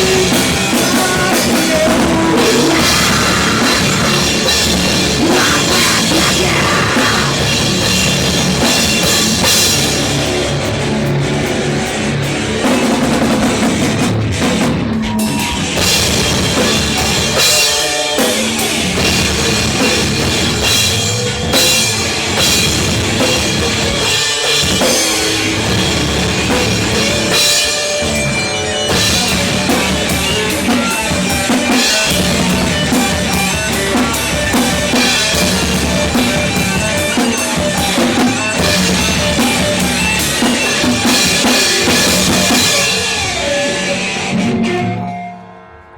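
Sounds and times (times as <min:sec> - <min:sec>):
pounding bass drum: 0:00.0 - 0:43.6
live metal band playing: 0:00.0 - 0:45.9.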